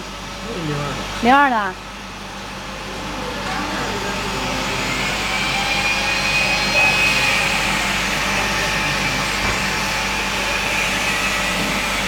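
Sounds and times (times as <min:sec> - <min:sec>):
faint high whine: 0:00.0 - 0:12.0
machinery drone: 0:00.0 - 0:12.0.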